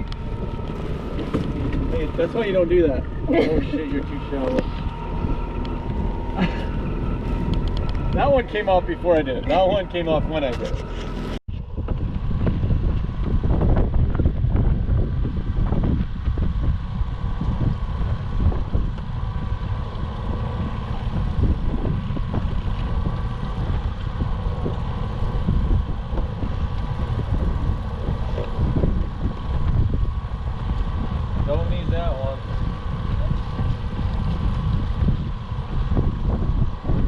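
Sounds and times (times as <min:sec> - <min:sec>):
boat motor running: 0:00.0 - 0:37.0
faint steady whine: 0:00.0 - 0:37.0
wind noise on microphone: 0:00.0 - 0:37.0.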